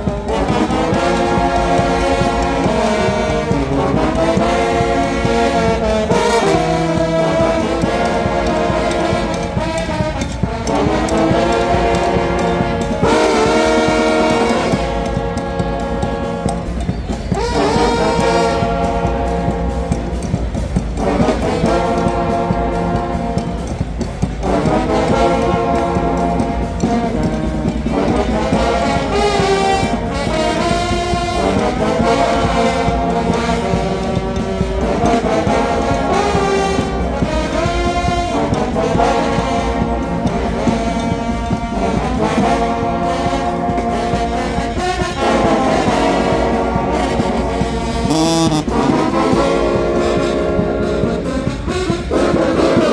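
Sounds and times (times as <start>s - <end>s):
brass band playing outdoors: 0.0s - 52.9s.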